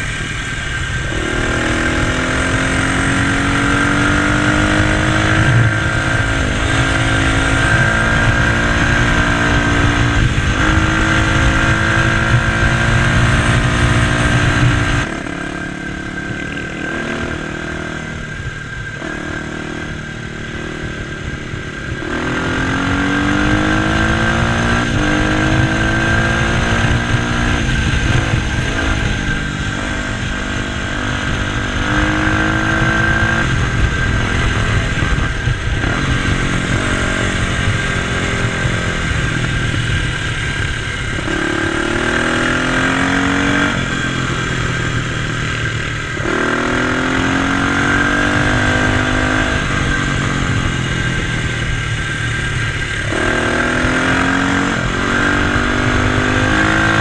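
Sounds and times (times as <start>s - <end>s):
dirt bike engine revving: 0.0s - 57.0s
wind rumble on microphone: 0.0s - 57.0s.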